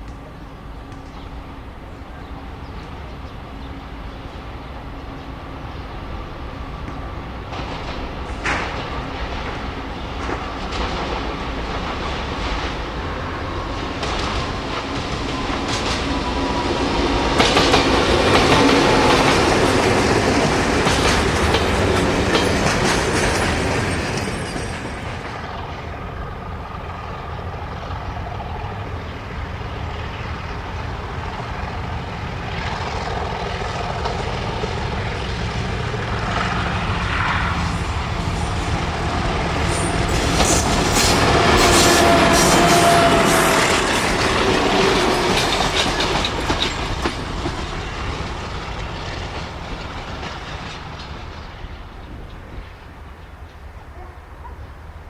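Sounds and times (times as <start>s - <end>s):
freight train rumble: 0.0s - 55.0s
train wheels clicking on rail joints: 6.5s - 54.2s.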